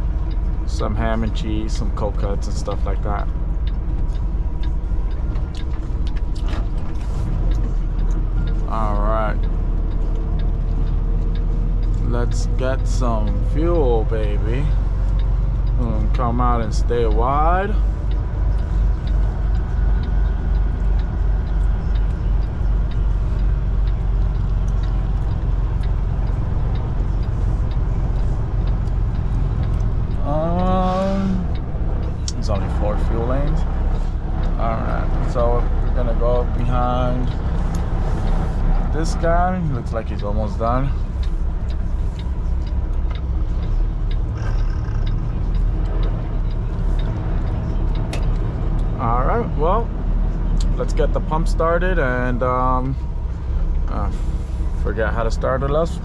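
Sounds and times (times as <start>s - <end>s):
faint ticks: 0.0s - 49.0s
truck diesel engine rumbling: 0.0s - 56.0s.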